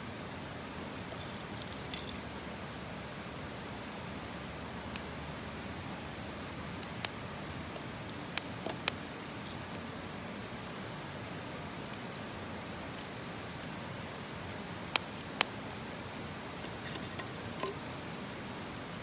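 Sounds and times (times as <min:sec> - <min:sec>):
campfire crackling: 0:00.1 - 0:19.0.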